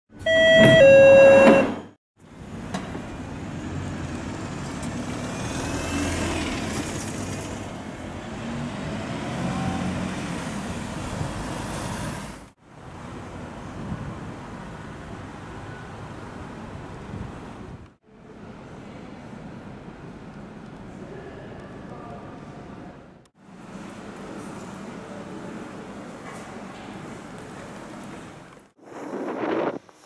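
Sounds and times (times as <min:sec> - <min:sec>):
outdoor noise: 0:00.1 - 0:30.0
vehicles passing on street: 0:02.2 - 0:28.8.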